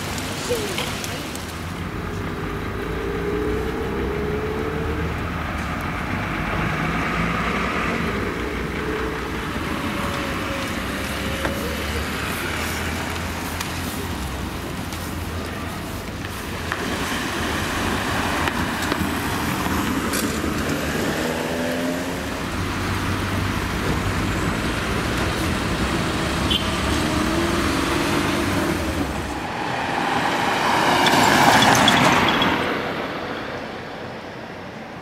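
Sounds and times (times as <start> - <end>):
passing cars and buses: 0.0 - 35.0.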